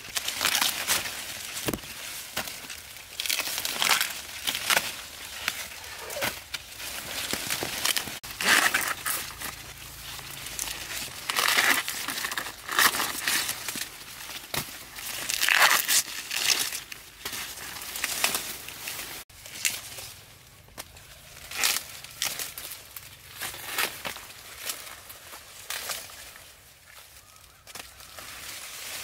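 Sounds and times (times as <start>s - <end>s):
dry corn leaves rustling: 0.0s - 29.0s
husks tearing: 0.0s - 29.0s.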